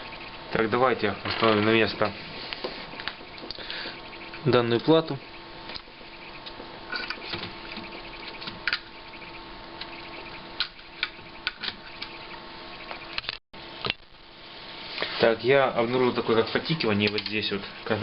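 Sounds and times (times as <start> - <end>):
power supply ticking: 0.0 - 14.2, 16.6 - 18.0
electrical hum: 0.0 - 18.0.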